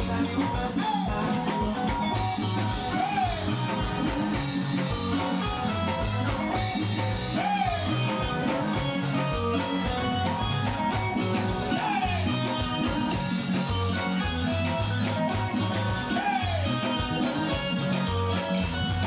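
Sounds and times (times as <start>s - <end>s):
live band dance groove: 0.0s - 19.0s.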